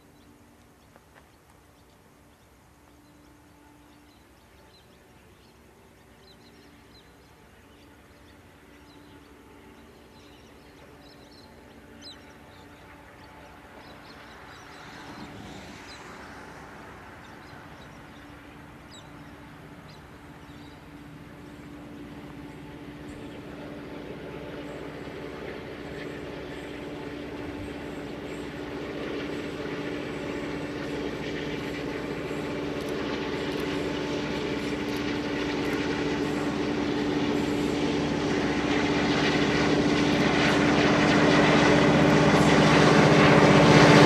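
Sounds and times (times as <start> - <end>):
locomotive engine humming: 0.0 - 44.0.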